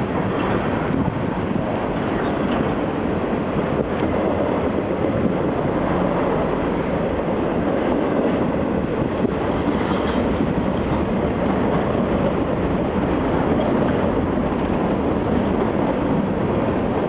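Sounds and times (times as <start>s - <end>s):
steel train wheels on rails: 0.0s - 17.0s.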